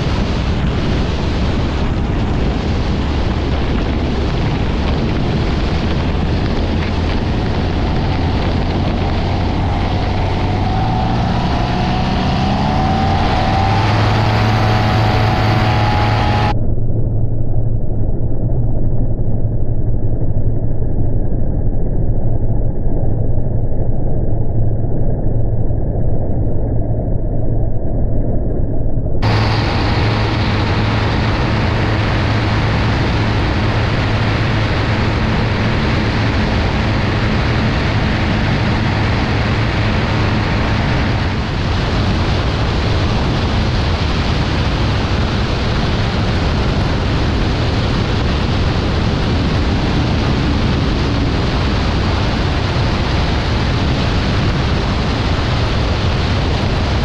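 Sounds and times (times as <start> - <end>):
wind rush on microphone: 0.0 - 16.6, 22.2 - 57.0
light aircraft engine droning: 0.0 - 20.4, 29.2 - 57.0.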